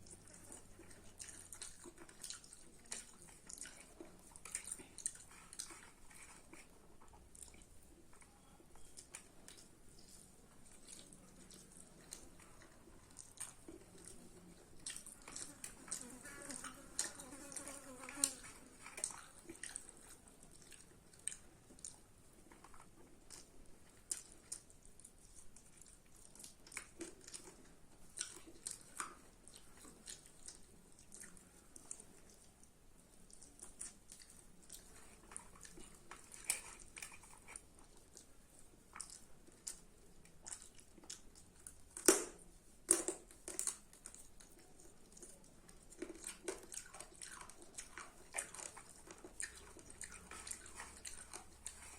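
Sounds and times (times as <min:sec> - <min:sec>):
person chewing with wet smacks: 0:00.0 - 0:51.9.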